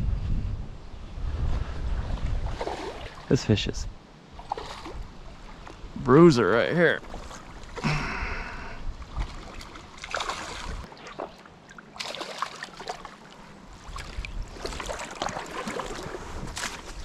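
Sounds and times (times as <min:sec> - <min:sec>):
water splashing and churning: 0:02.3 - 0:03.4, 0:04.3 - 0:17.0.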